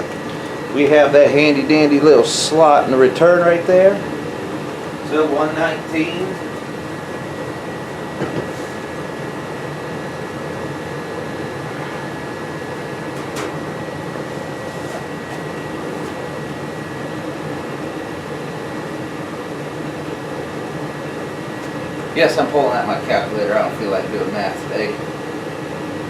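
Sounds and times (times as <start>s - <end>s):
faint high whine: 0.0s - 26.0s
furnace blower rushing air: 0.0s - 26.0s.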